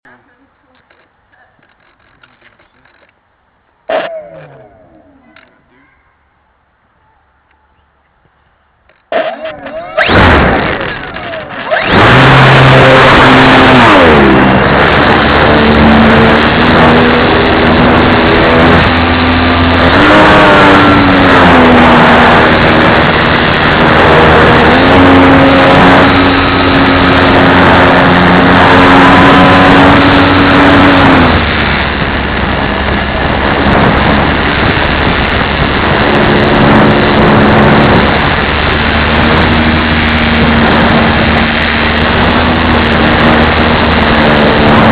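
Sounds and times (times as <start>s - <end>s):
model plane motor and propeller whine: 8.9s - 44.9s.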